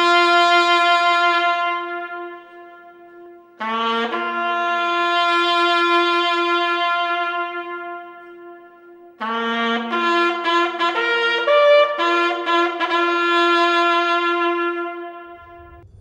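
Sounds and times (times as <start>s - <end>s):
trumpet fanfare: 0.0s - 15.8s.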